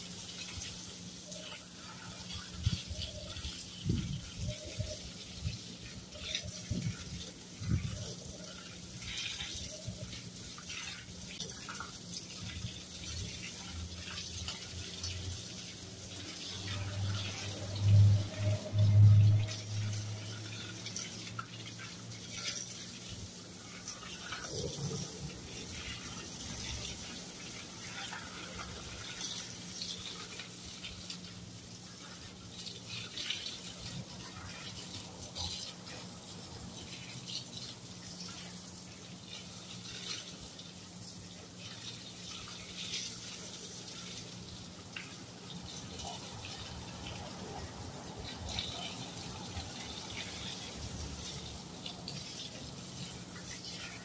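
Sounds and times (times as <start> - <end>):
garden hose spraying water: 0.0 - 54.0.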